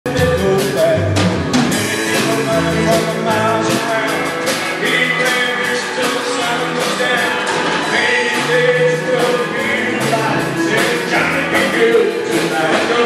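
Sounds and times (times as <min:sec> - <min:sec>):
rock and roll band playing: 0:00.0 - 0:13.0
drum beat: 0:00.1 - 0:13.0
person singing: 0:00.1 - 0:13.0.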